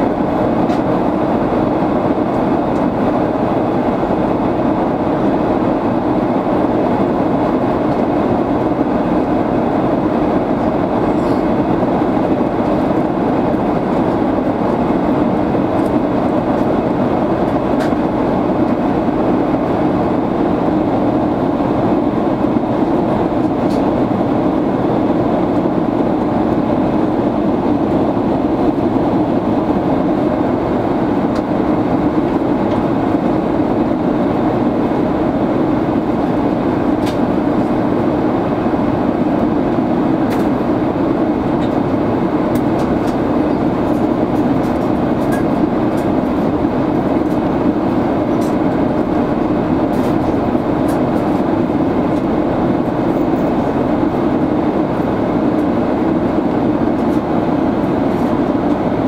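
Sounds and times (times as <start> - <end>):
airliner cabin airflow and engine: 0.0 - 59.0.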